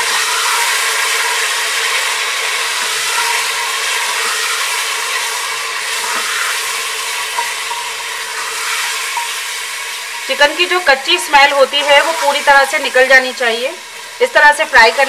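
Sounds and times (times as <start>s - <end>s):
spatula stirring: 0.0s - 12.7s
chicken sizzling in oil: 0.0s - 15.0s.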